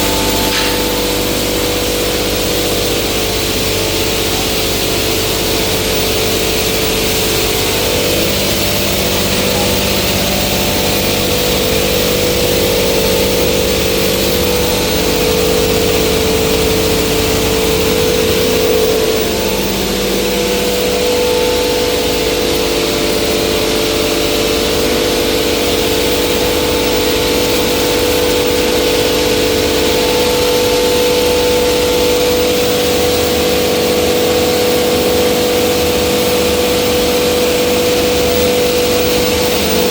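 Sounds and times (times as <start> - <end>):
flour mill running: 0.0 - 39.9.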